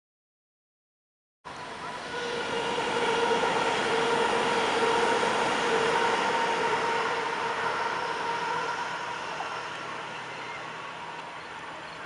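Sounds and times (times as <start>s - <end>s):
electric train rumbling with high whine: 1.5s - 12.0s.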